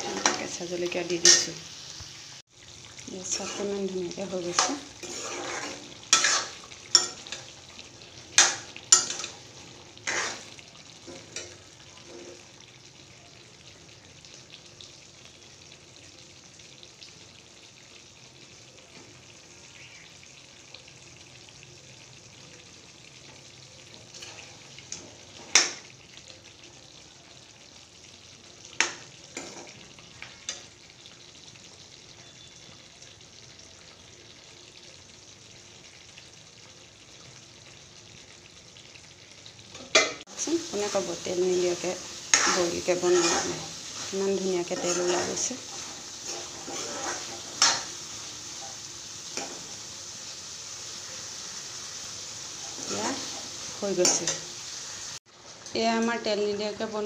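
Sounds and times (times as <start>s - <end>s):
curry sizzling and bubbling: 0.0s - 57.0s.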